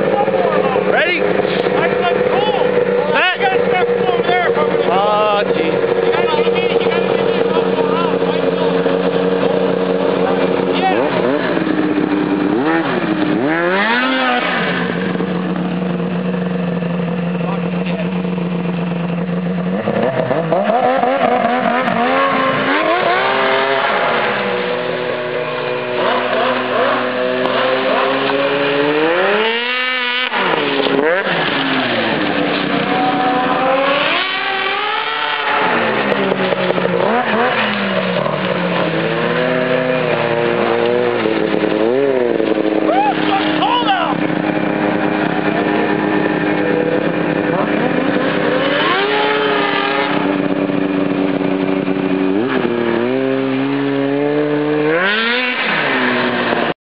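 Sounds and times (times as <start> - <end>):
snowmobile engine idling and revving: 0.0 - 56.8.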